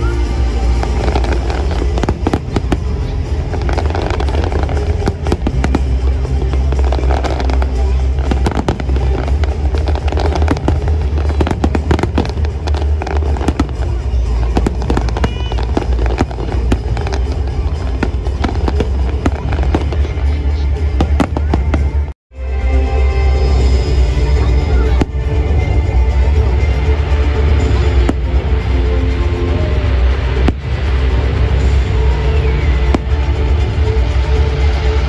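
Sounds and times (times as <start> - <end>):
fireworks bangs and crackling: 0.0 - 22.1, 23.5 - 35.0
music with heavy bass: 0.0 - 35.0.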